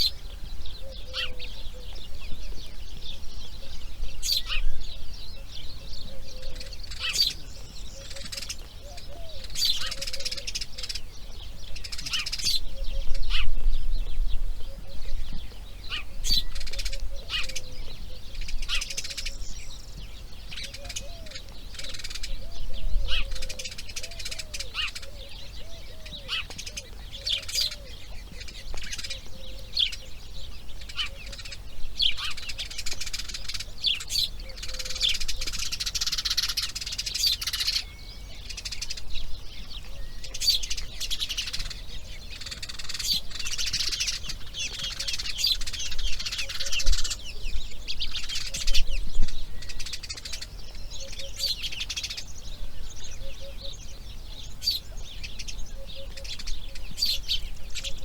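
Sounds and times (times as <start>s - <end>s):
birds chirping and singing: 0.0s - 58.0s
faint low curved calls: 0.0s - 58.0s.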